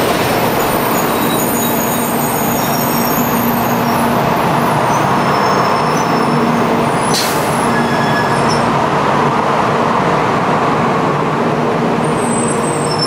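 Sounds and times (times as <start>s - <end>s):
train running at low speed: 0.0s - 13.0s.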